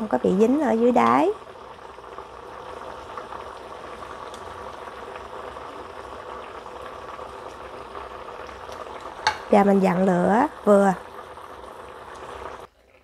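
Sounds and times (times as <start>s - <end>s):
water boiling in a frying pan: 0.0s - 13.0s.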